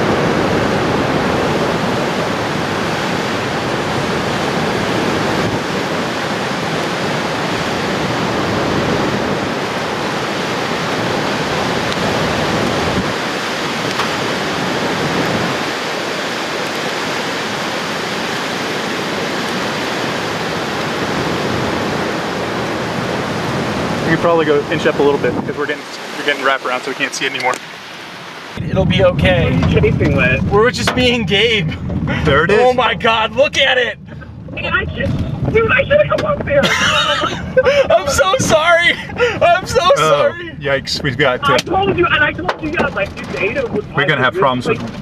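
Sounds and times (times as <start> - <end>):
tornado roaring: 0.0 - 45.0.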